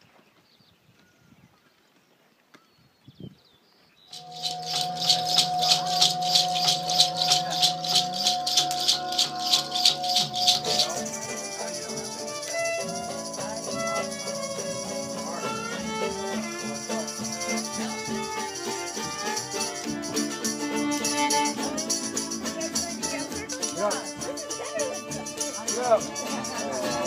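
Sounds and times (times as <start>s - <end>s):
shaker rattling: 4.1s - 27.0s
sustained instrument notes: 4.1s - 27.0s.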